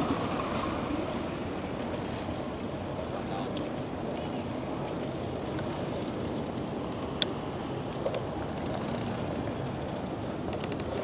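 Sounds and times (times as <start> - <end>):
bicycle road and wind noise: 0.0 - 11.0.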